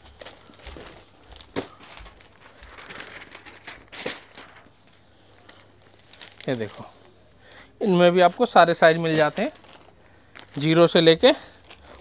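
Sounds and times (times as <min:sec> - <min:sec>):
sharp plastic crackles: 0:00.0 - 0:06.8, 0:08.3 - 0:12.0
clothes and plastic rustling: 0:00.0 - 0:12.0.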